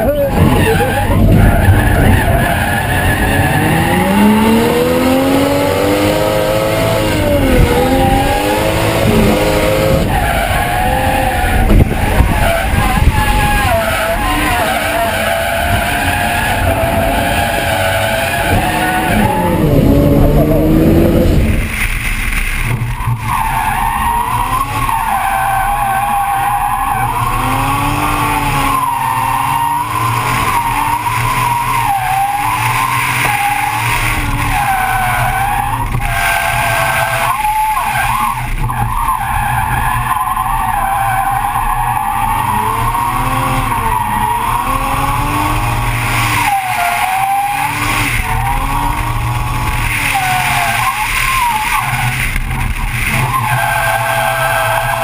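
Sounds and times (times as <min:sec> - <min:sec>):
car engine revving: 0:00.0 - 0:55.0
tyres skidding: 0:00.0 - 0:55.0.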